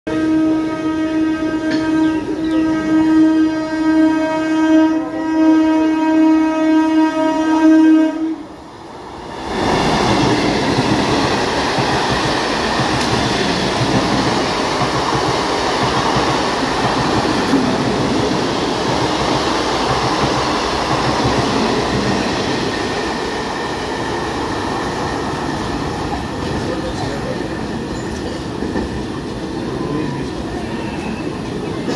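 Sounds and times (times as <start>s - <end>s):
electric train passing at speed: 0.1s - 31.9s.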